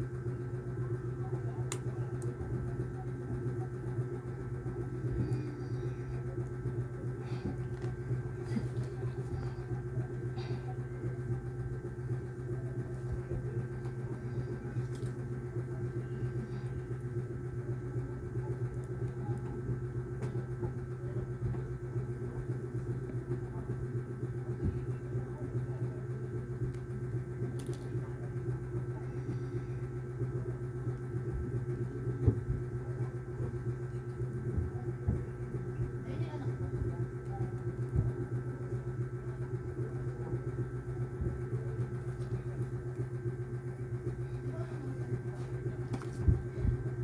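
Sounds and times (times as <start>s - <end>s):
small machine humming: 0.0s - 47.0s.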